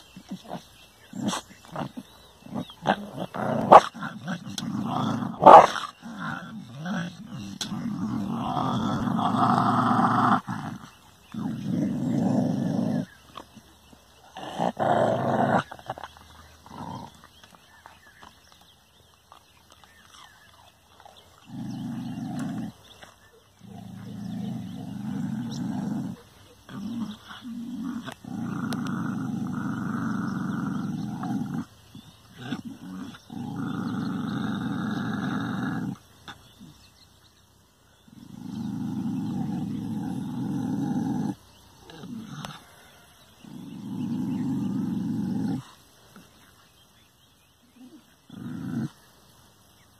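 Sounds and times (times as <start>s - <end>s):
dog growling: 0.0s - 18.5s, 19.4s - 36.9s, 38.0s - 46.4s, 47.6s - 49.1s.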